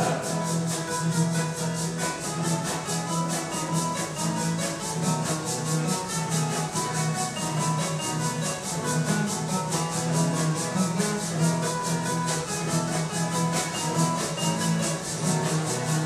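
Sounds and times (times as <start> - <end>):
acoustic guitars playing: 0.0 - 16.0
maracas shaken: 0.0 - 16.0.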